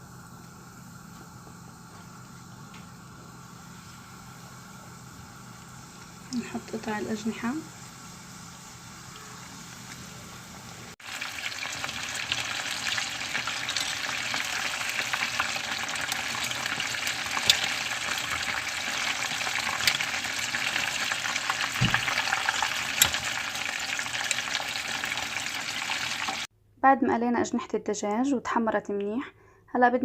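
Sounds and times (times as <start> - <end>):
chicken deep-frying in oil: 2.2 - 26.5.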